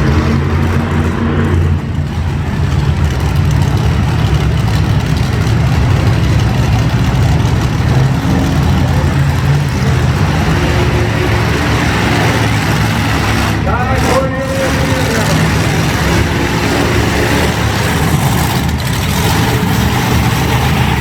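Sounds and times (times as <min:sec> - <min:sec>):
monster truck engines running: 0:00.0 - 0:21.0.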